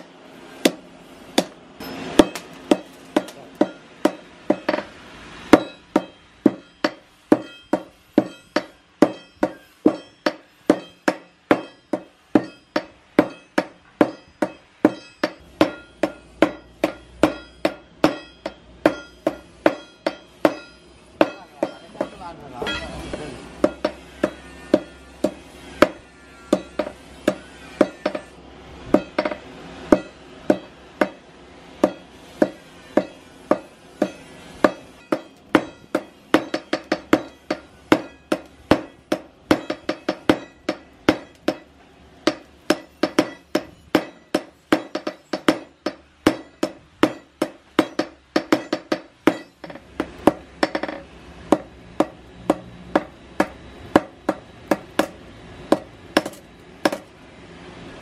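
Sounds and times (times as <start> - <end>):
hammer striking steel on anvil: 0.0 - 57.1.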